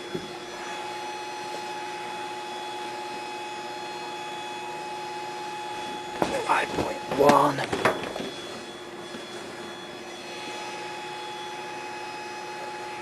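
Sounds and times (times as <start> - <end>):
mechanical hum with whine: 0.0 - 13.0.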